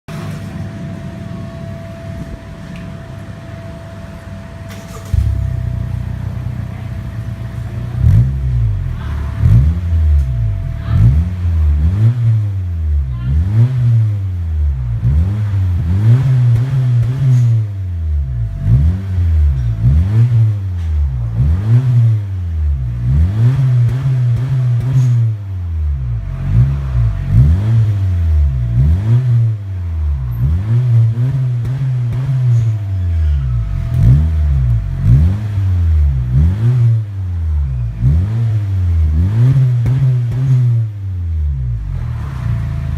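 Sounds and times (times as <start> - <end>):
car engine revving: 0.3 - 42.9.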